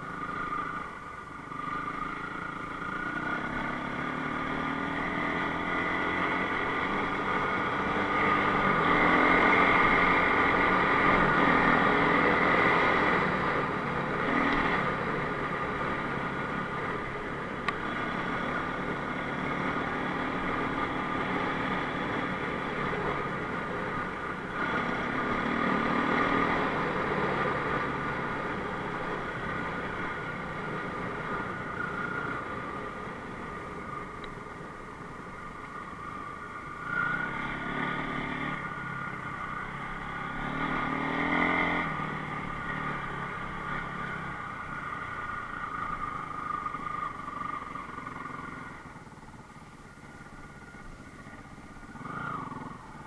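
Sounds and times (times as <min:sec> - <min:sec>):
motorcycle engine revving: 0:01.5 - 0:34.1, 0:36.0 - 0:49.3, 0:50.3 - 0:53.0.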